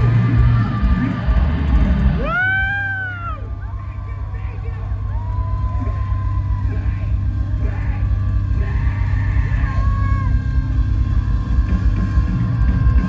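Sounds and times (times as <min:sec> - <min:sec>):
live band music over loudspeakers: 0:00.0 - 0:13.0.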